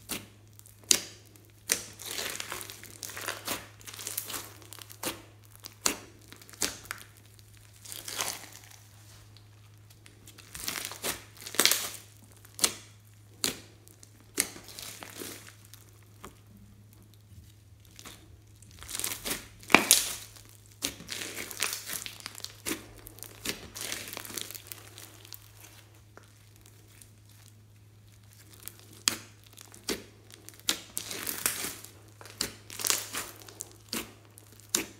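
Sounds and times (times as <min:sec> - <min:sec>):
slime crackling and popping: 0:00.0 - 0:34.9.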